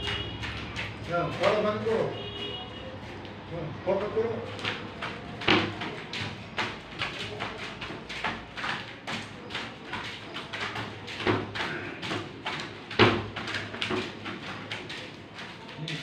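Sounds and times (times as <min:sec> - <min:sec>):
jogging footsteps thudding: 0:00.0 - 0:03.1, 0:04.0 - 0:16.0.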